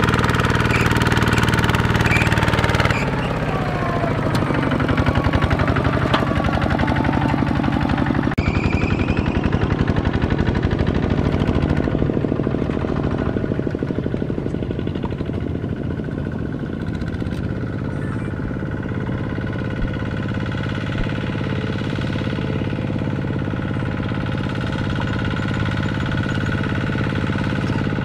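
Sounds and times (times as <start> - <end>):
diesel engine chugging: 0.0 - 28.0.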